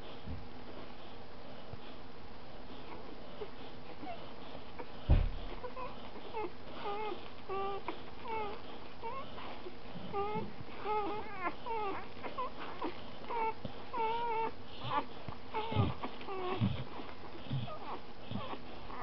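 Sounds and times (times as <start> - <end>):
puppies squeaking and whimpering: 2.8 - 19.0.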